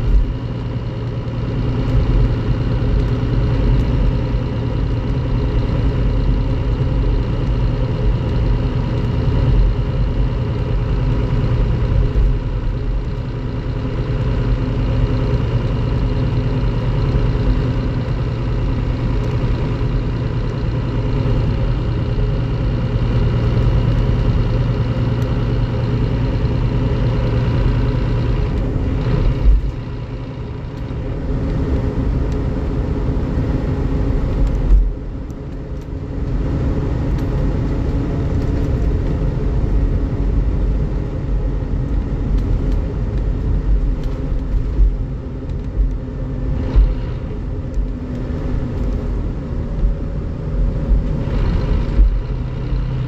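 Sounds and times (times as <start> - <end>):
diesel bus engine running: 0.0 - 53.0.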